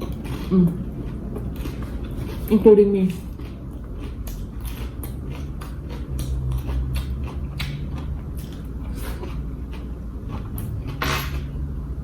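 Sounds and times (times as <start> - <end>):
crunchy chewing: 0.0 - 11.6.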